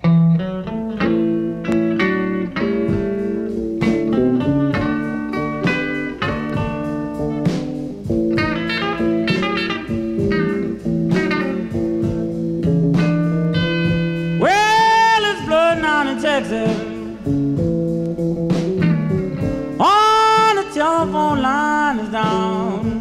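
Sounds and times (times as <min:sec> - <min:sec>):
plucked blues guitar: 0:00.0 - 0:23.0
steady bass line: 0:00.0 - 0:23.0.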